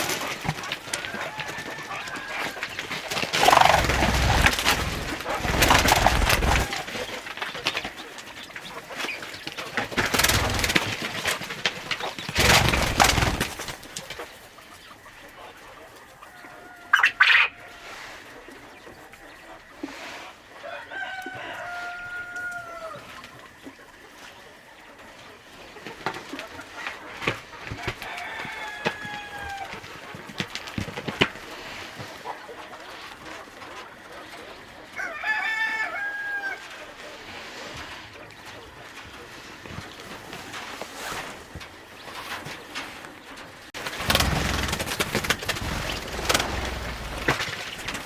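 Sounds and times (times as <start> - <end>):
chicken squawk: 0.0 - 10.8, 11.8 - 25.2, 26.3 - 29.8, 31.4 - 42.3
chickens calling: 0.0 - 48.0.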